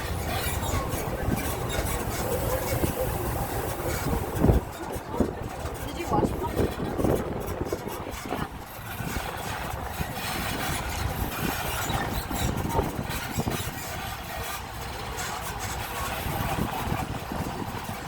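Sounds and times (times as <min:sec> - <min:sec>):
road noise: 0:00.0 - 0:18.0
tram engine running: 0:00.0 - 0:18.0.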